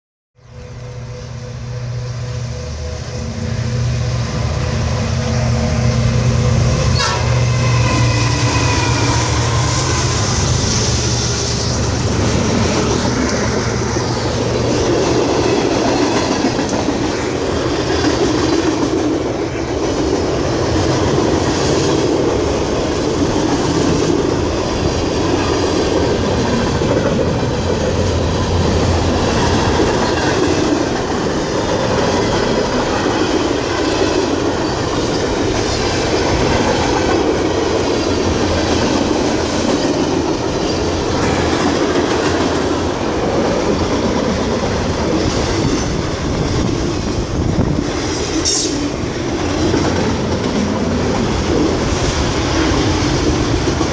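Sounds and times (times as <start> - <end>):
locomotive engine drone: 0.4 - 53.9
train wheels rumbling on rails: 0.4 - 53.9.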